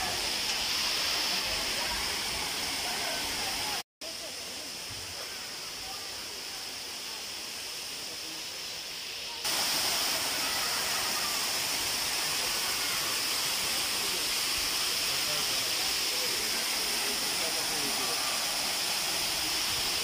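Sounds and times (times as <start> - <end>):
waterfall roaring into a pool: 0.0 - 20.0.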